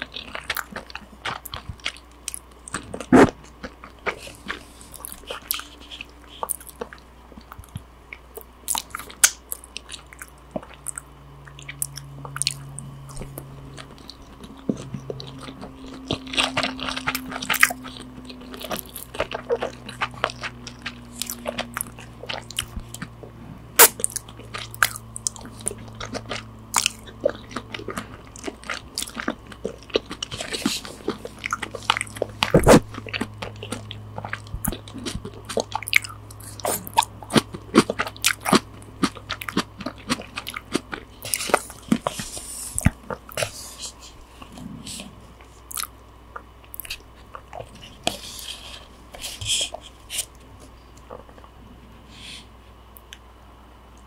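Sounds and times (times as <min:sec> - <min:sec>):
wet chewing: 0:00.0 - 0:51.6.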